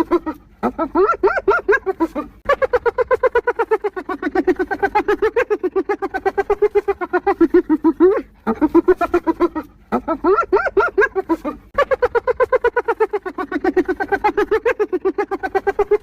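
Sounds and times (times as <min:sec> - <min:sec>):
hyena giggling: 0:00.0 - 0:16.0.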